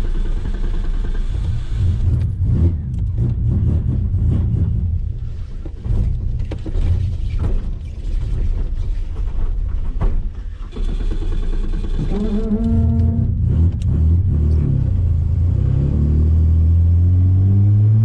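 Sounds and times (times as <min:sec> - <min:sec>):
car engine running unevenly: 0:00.0 - 0:09.0, 0:10.3 - 0:16.8
engine knocks: 0:00.0 - 0:15.2.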